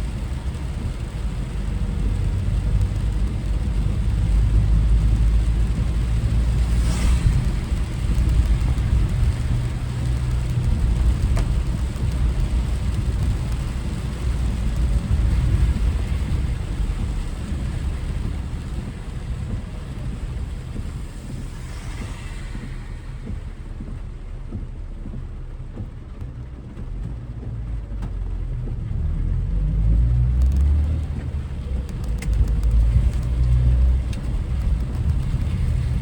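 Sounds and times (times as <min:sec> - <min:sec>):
rain hissing on car: 0:00.0 - 0:36.0
road and wind rumble: 0:00.0 - 0:36.0.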